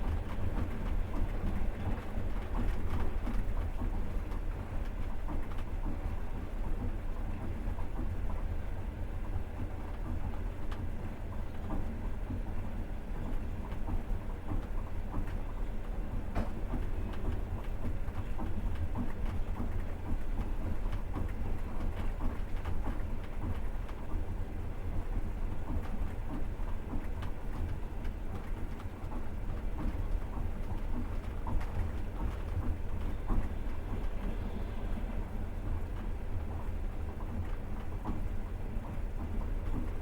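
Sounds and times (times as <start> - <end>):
train wheels rumbling on rails: 0.0 - 8.7, 9.6 - 40.0.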